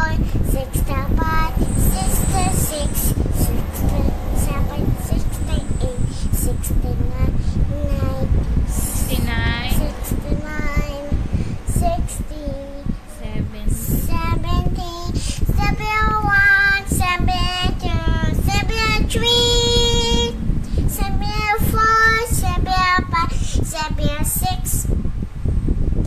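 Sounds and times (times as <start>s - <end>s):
girl singing: 0.0s - 25.1s.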